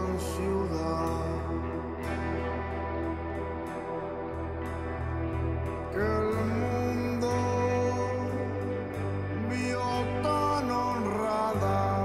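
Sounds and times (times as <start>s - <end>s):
ambient music from vinyl: 0.0s - 12.0s
steady low drone: 0.0s - 12.0s.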